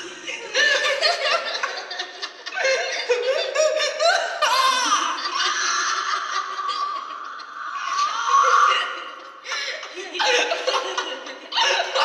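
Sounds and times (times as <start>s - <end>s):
woman laughing: 0.0s - 12.0s.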